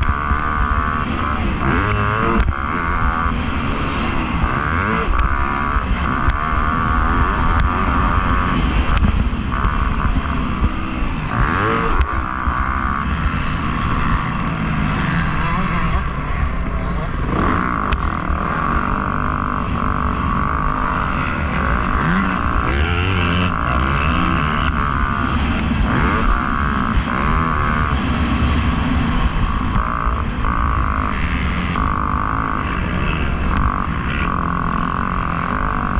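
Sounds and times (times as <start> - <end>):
motocross bike engine revving: 0.0 - 35.9.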